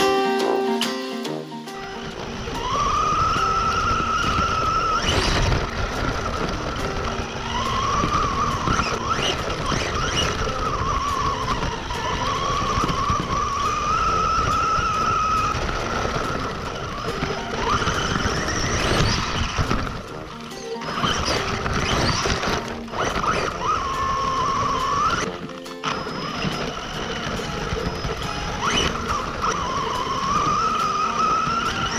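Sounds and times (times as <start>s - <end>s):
toy truck motor whine: 1.7s - 31.9s
tyres rumbling on dirt: 1.7s - 31.9s.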